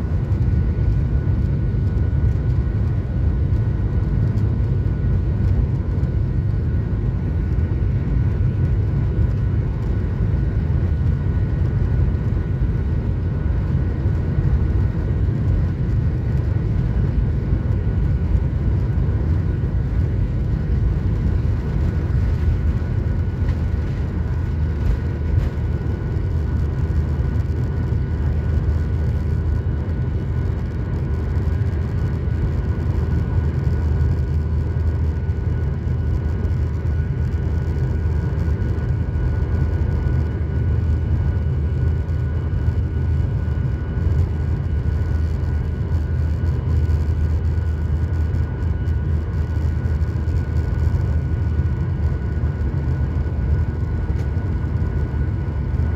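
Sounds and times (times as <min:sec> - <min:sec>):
jet engines rumbling in cabin: 0:00.0 - 0:55.9.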